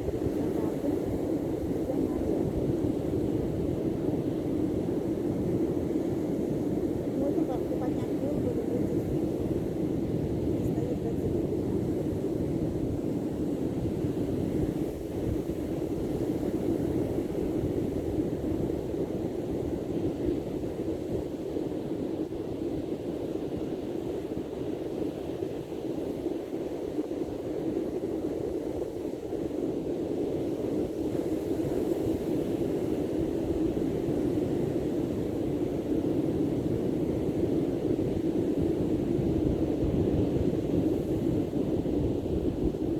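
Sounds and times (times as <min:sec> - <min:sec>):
wind: 0:00.0 - 0:42.9.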